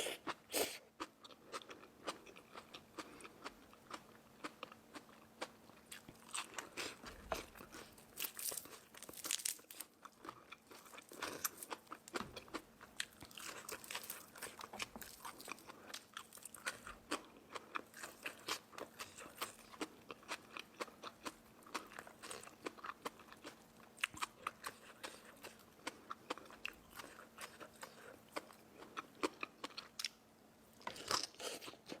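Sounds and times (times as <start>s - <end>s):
crunchy chewing of crispy food: 0.0s - 32.0s
faint steady hum: 0.0s - 32.0s.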